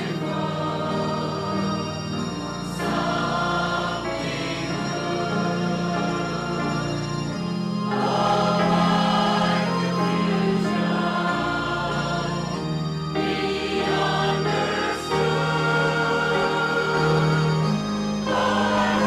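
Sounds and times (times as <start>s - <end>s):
congregation singing a hymn: 0.0s - 19.0s.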